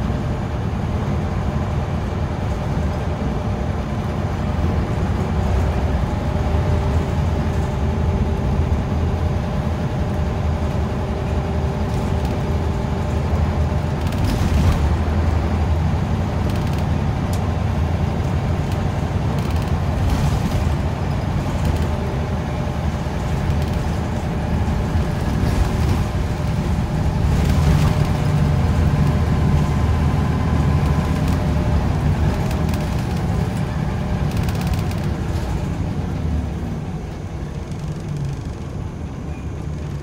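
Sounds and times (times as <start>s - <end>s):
bus diesel engine droning: 0.0s - 40.0s
tyre and road noise: 0.0s - 40.0s.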